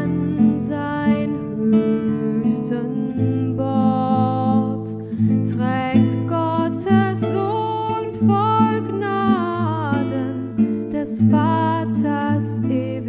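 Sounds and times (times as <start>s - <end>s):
classical guitar plucked chords: 0.0s - 13.0s
woman singing: 0.0s - 13.0s.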